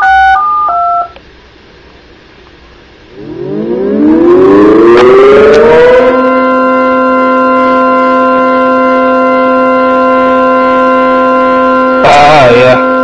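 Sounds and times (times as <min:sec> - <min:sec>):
synthesized siren: 0:00.0 - 0:01.1, 0:03.1 - 0:13.0.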